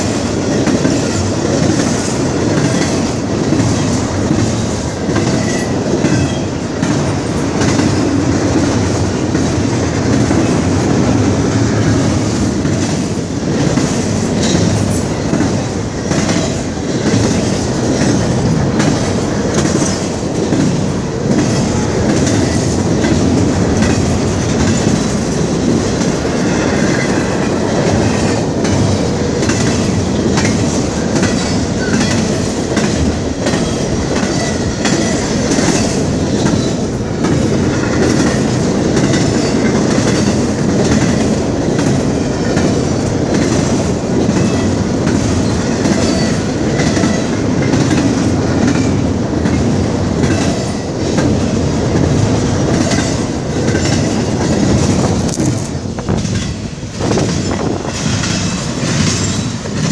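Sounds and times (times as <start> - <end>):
freight train rolling past: 0.0 - 59.9
wheels clicking over rail joints: 0.0 - 59.9.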